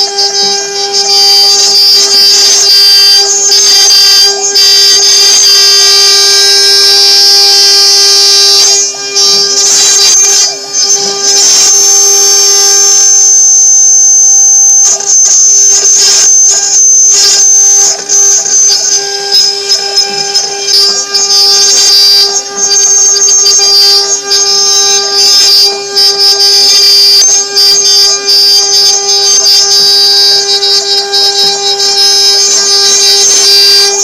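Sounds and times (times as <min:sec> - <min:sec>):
milling router cutting: 0:00.0 - 0:34.0.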